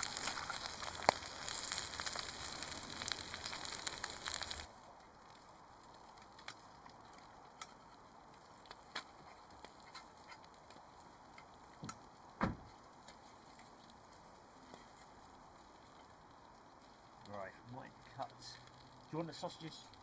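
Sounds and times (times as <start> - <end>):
campfire crackling on griddle: 0.0 - 20.0.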